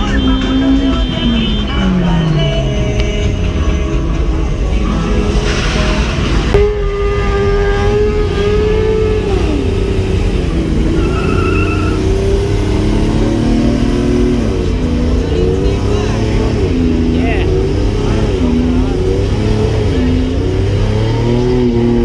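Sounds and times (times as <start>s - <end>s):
engines running and revving: 0.0s - 22.0s.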